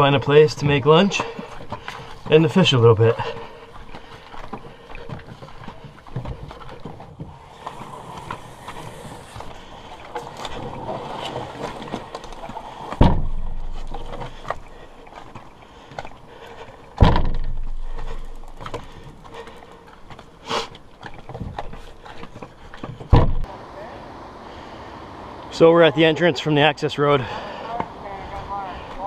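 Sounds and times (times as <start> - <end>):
footsteps on dirt trail: 0.0 - 23.2, 27.2 - 29.0.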